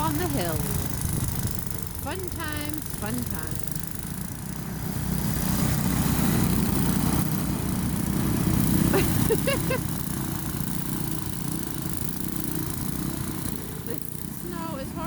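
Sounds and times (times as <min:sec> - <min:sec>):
snowblower engine running: 0:00.0 - 0:15.0.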